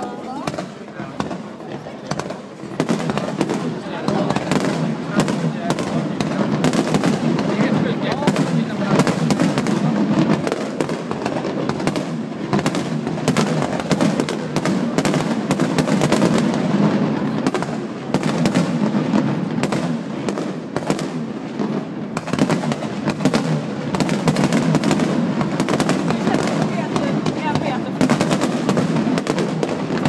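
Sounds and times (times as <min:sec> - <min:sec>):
firework bangs and crackles: 0:00.0 - 0:30.0.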